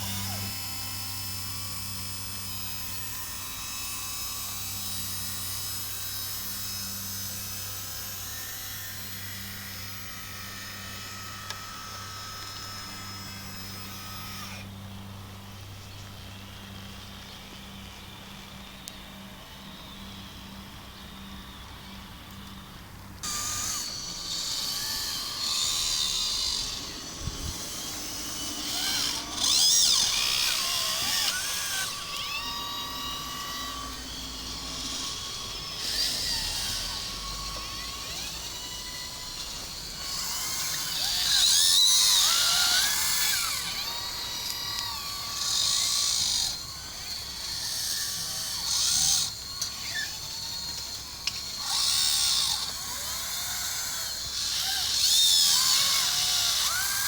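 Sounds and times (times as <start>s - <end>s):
small electric motors whining: 0.0s - 57.0s.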